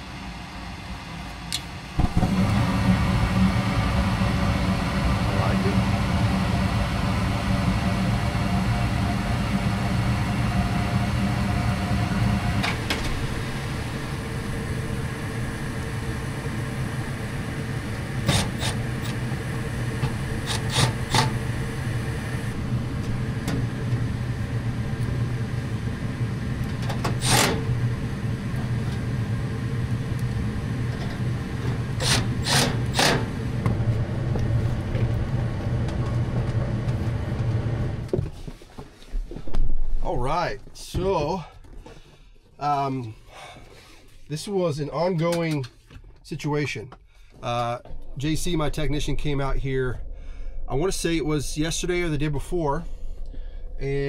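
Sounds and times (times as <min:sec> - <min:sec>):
furnace motor hum: 0:00.0 - 0:45.7.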